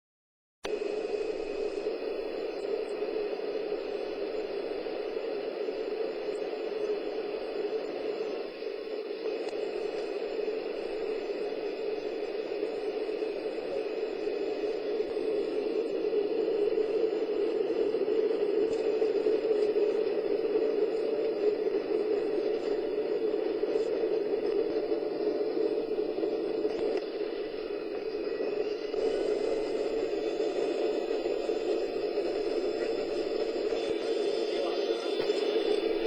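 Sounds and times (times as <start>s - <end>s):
airliner cabin engine rush: 0.7s - 36.0s.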